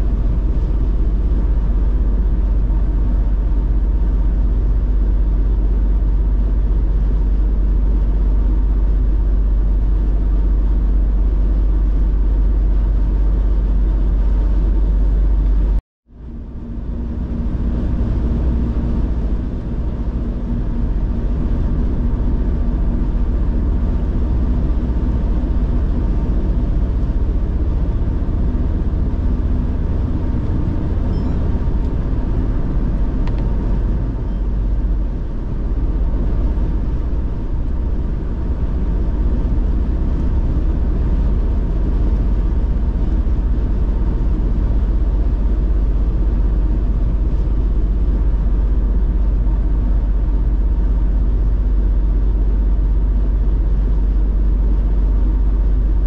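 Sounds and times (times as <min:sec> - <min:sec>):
car driving road rumble: 0:00.0 - 0:56.0.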